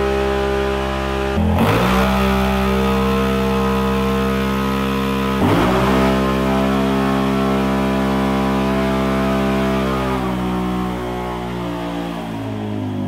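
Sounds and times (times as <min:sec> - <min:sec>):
engine running hard on dyno: 0:00.0 - 0:13.0.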